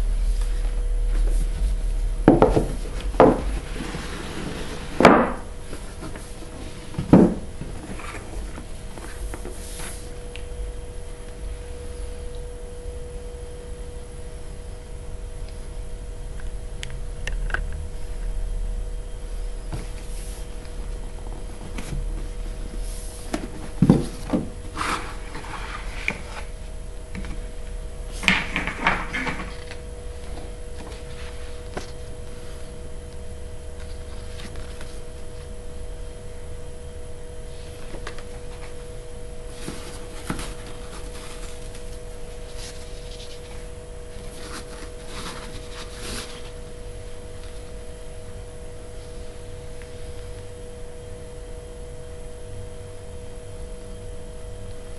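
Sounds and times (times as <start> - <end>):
faint electrical hum: 0.0 - 54.9.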